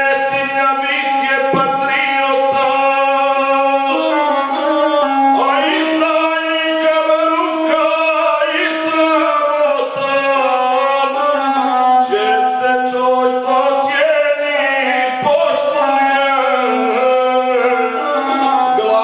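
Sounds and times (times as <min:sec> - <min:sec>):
bowed single-string instrument: 0:00.0 - 0:19.0
man singing in chanting voice: 0:00.0 - 0:19.0.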